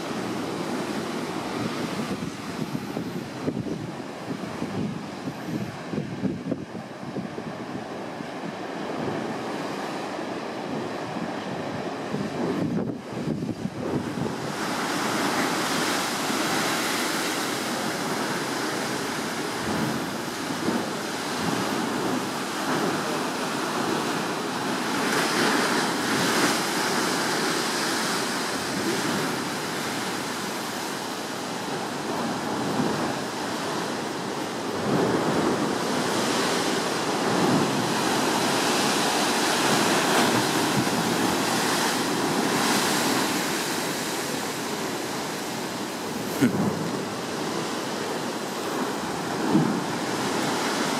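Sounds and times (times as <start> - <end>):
ocean surf breaking on rocks: 0.0 - 50.9
wind gusting on microphone: 0.0 - 50.9.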